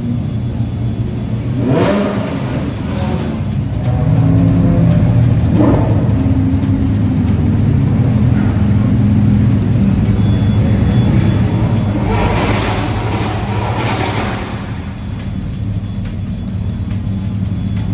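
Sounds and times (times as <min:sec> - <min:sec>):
car engine running: 0:00.0 - 0:17.9.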